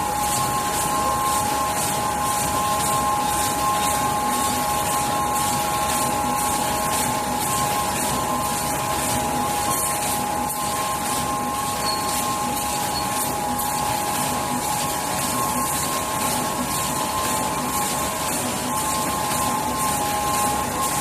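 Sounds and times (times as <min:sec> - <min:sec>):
printing machine humming: 0:00.0 - 0:21.0.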